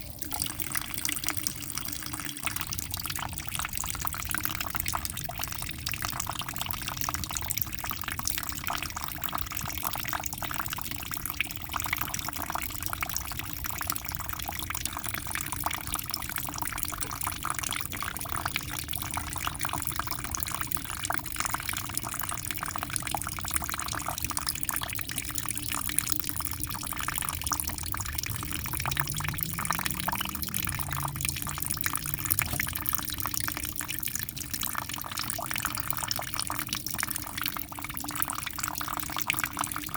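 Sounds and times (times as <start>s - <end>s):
aquarium water splashing and bubbling: 0.0s - 39.9s.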